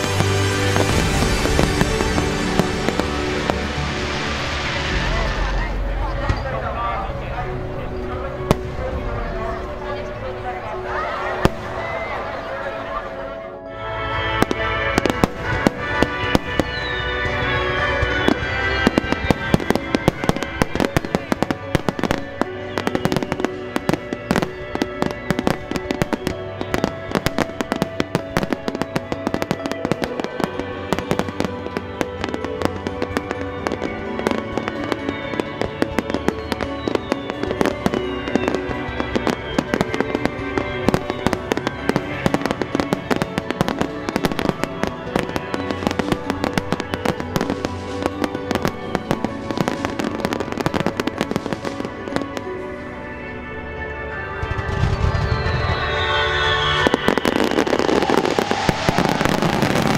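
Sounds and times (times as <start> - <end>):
fireworks bursting: 0.0 - 13.2, 14.1 - 53.3, 54.0 - 59.9
music playing: 0.0 - 59.9.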